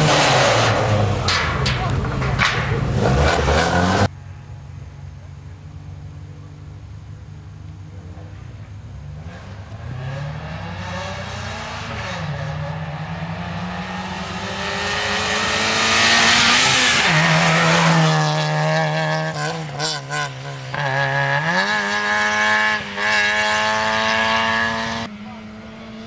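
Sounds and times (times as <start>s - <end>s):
rally car engine passing by: 0.0s - 4.5s, 8.0s - 26.0s.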